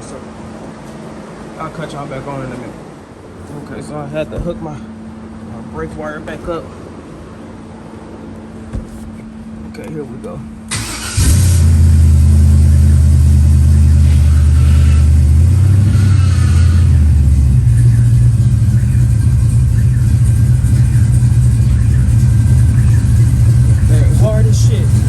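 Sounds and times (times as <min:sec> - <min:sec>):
car engine running: 0:00.8 - 0:25.0.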